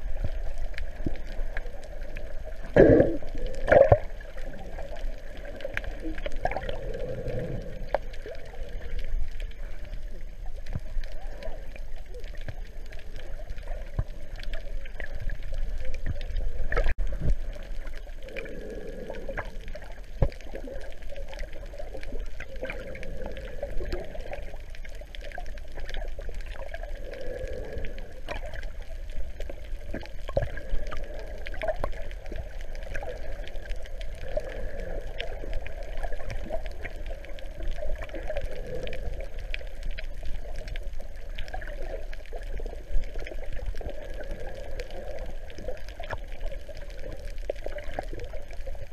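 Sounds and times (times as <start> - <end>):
muffled underwater gurgling: 0.0 - 48.9.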